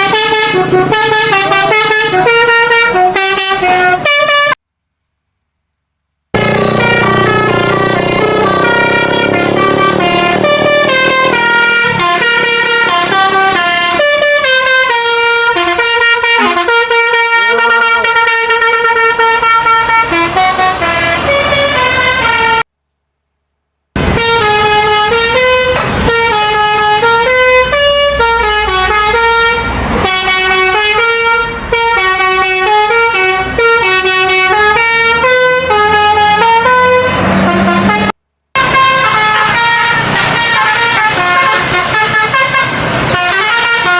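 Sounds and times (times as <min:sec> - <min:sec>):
multi-tone air horn melody: 0:00.0 - 0:04.6, 0:06.4 - 0:22.7, 0:24.0 - 0:43.9.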